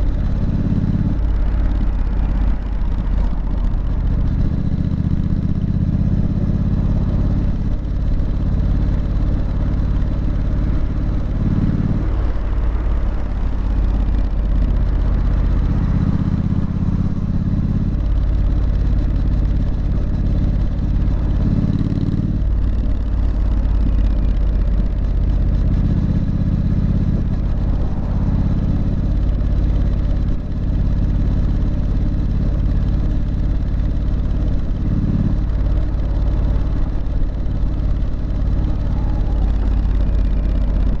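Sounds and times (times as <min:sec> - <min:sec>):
motorcycle engine and exhaust: 0:00.0 - 0:41.0.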